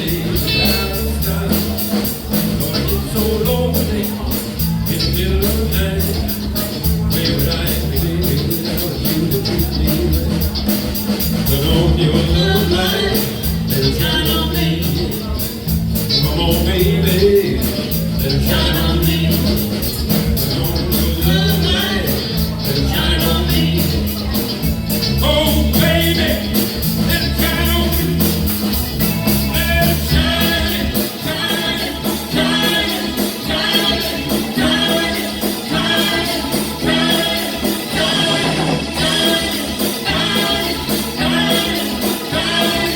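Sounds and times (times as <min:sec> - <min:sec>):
bass line: 0:00.0 - 0:42.9
live band playing: 0:00.0 - 0:42.9
person singing: 0:00.0 - 0:42.9.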